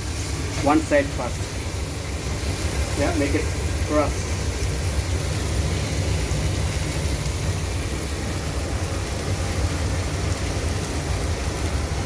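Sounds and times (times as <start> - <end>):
low machinery rumble: 0.0 - 12.0
ventilation hiss: 0.0 - 12.0.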